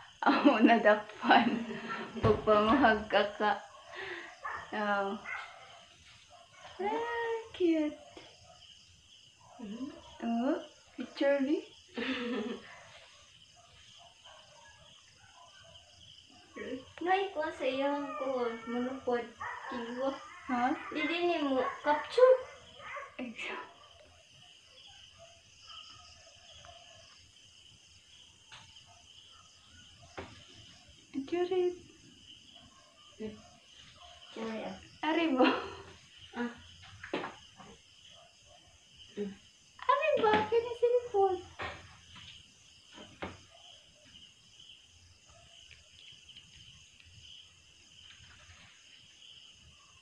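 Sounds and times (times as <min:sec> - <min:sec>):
night insects trilling: 0:00.0 - 0:50.0.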